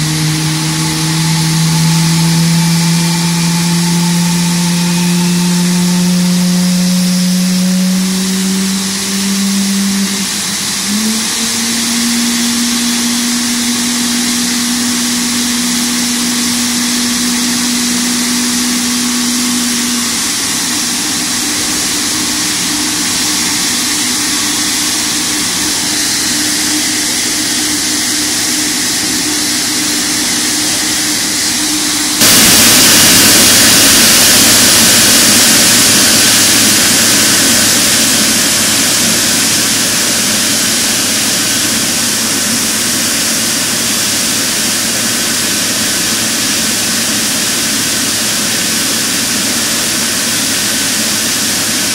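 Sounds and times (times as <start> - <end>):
jet engine roaring hiss: 0.0 - 51.9.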